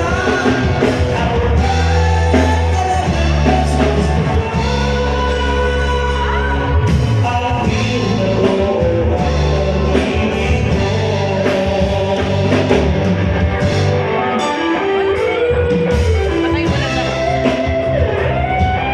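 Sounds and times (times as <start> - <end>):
guitar: 0.0 - 18.9
loud rock music: 0.0 - 18.9
person singing: 0.0 - 18.9.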